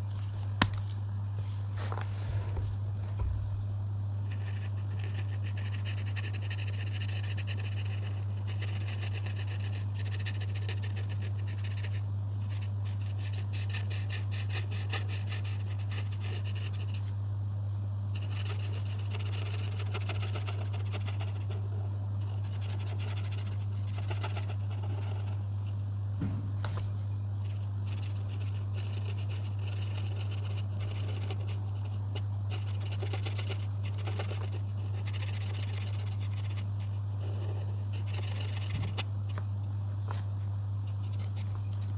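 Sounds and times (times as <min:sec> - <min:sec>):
steady low hum: 0:00.0 - 0:41.9
scratchy coloring strokes on paper: 0:04.2 - 0:17.1, 0:18.1 - 0:25.8, 0:26.7 - 0:39.4, 0:40.1 - 0:41.9.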